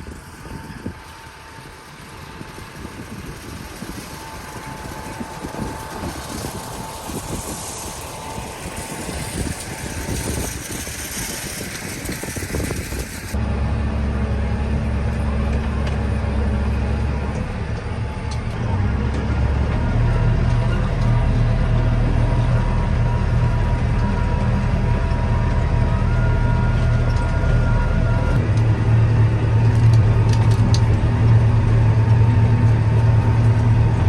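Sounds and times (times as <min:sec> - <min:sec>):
low engine drone: 0:00.0 - 0:34.0
tractor engine running: 0:00.0 - 0:34.0.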